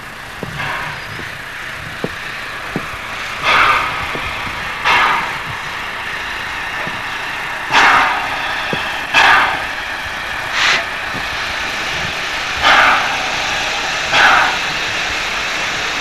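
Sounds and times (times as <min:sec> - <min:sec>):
steady steam hiss: 0:00.0 - 0:16.0
steam locomotive chuffing: 0:00.0 - 0:16.0.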